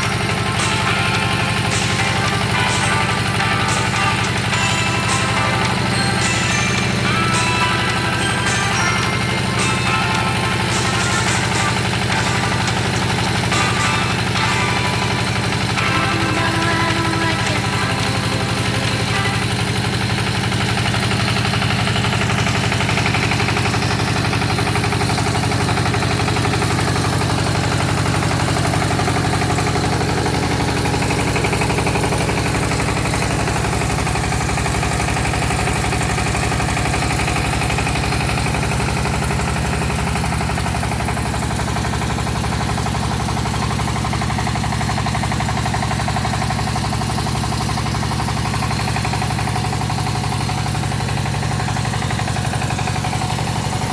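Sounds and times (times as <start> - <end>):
drilling rig engine running: 0.0 - 53.9.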